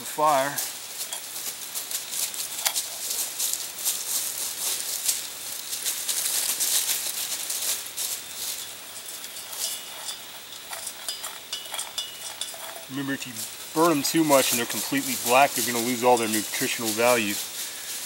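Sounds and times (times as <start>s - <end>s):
roasted nut pieces rattling in metal cup: 0.3s - 18.0s.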